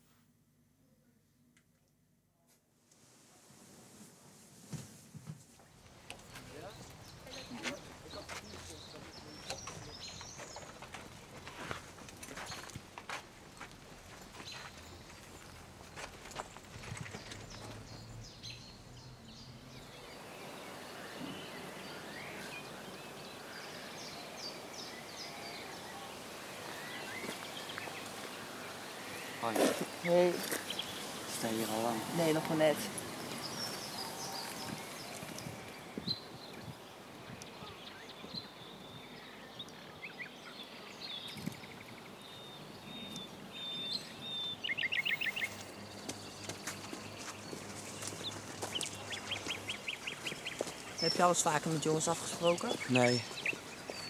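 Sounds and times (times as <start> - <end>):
outdoor background noise: 0.0 - 54.0
steady background hiss: 2.5 - 16.8, 18.0 - 54.0
birds chirping and singing: 6.2 - 11.4, 14.4 - 54.0.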